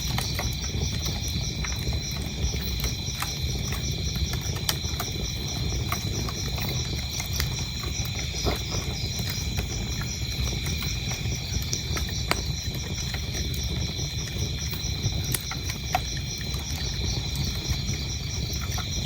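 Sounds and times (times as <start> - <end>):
crickets chirping: 0.0 - 19.0
wood fire crackling: 0.0 - 19.0.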